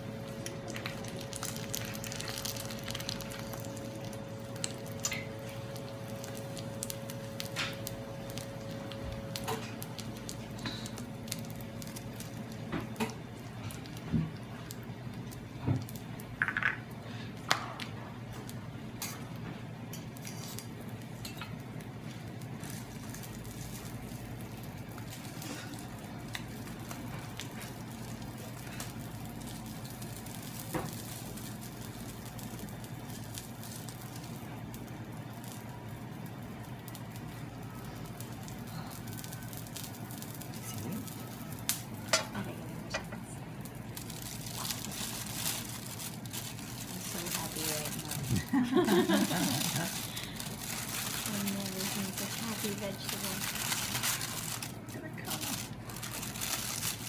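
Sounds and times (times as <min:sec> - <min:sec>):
steady low hum: 0:00.0 - 0:56.9
food sizzling on a griddle: 0:00.0 - 0:57.0.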